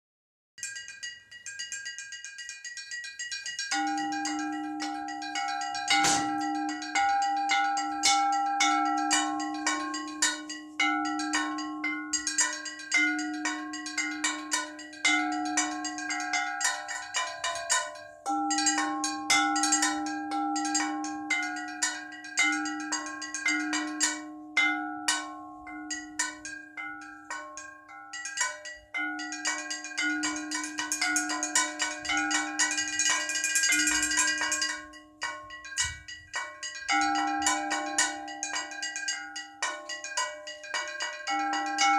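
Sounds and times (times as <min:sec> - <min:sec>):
small high bells striking: 0:00.6 - 0:41.9
low church bell ringing: 0:03.7 - 0:41.9.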